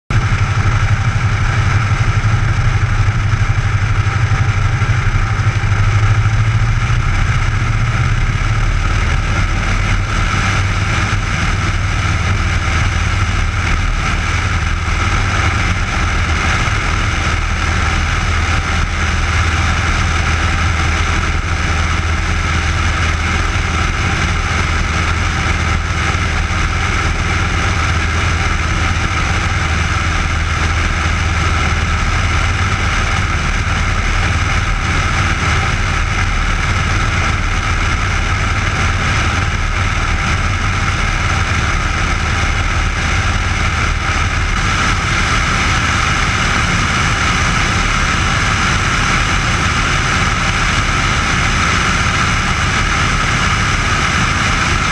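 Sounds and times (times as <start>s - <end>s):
airplane engine and propeller drone: 0.1s - 54.9s.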